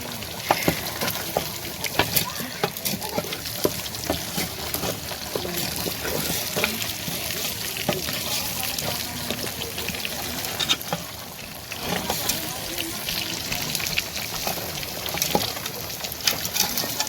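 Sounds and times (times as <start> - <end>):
food sizzling in a frying pan: 0.0 - 17.0
stirring clicks and scrapes: 0.0 - 17.0.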